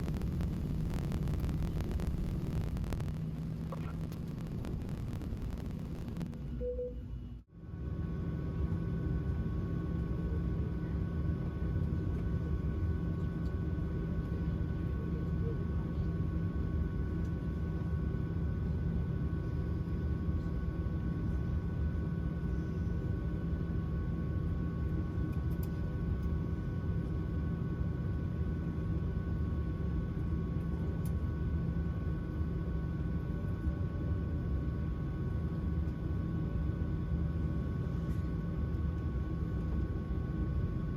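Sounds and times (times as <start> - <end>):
engine and airflow rumble: 0.0 - 40.9
faint whine: 0.0 - 40.9.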